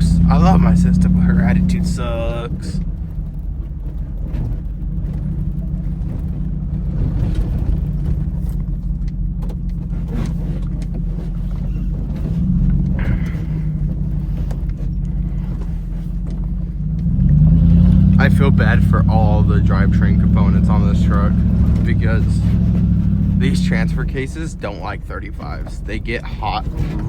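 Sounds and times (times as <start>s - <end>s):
clunks and rattles: 0.0s - 27.0s
truck engine running: 0.0s - 27.0s.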